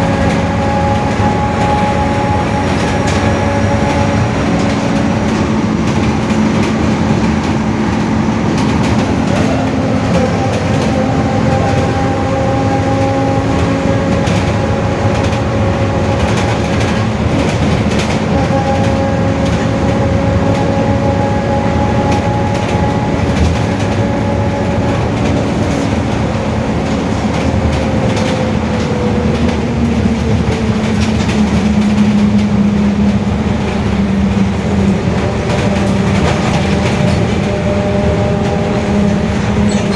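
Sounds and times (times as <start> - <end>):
bus differential whining: 0.0 - 39.9
running gear rumble: 0.0 - 39.9.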